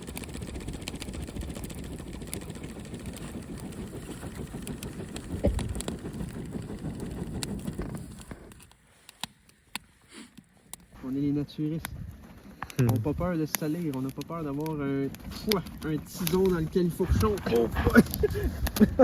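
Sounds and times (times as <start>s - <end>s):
hand fan rush of air: 0.0s - 8.6s, 10.1s - 19.0s.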